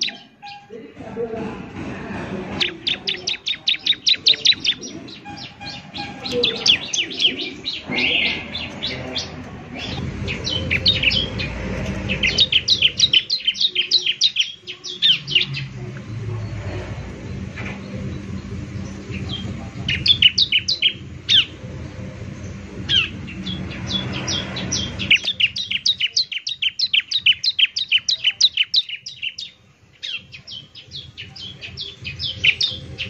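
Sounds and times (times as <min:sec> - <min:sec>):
bird singing high chirps: 0:00.0 - 0:00.8, 0:02.6 - 0:33.0.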